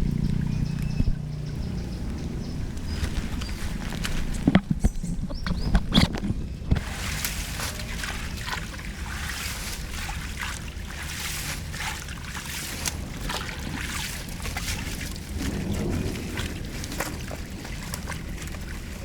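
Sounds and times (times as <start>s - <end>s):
flood water flowing: 0.0s - 19.0s
small water splashes: 0.0s - 19.0s.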